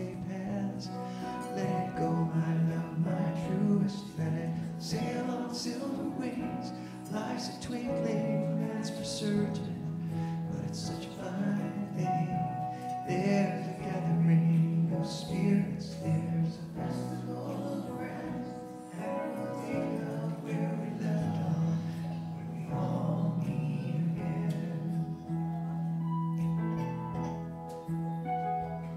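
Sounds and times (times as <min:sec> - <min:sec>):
man singing into microphone: 0:00.0 - 0:26.0
electronic keyboard chords: 0:00.0 - 0:28.9.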